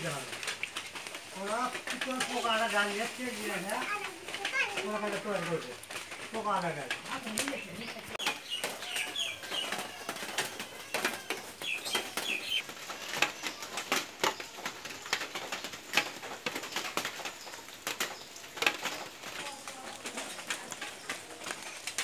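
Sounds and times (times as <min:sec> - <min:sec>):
clicks and rustles: 0:00.0 - 0:22.0.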